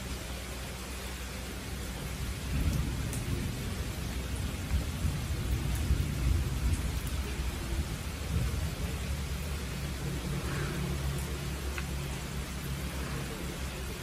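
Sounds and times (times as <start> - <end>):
rain pattering: 0.0 - 14.0
raindrop clicks: 2.5 - 14.0.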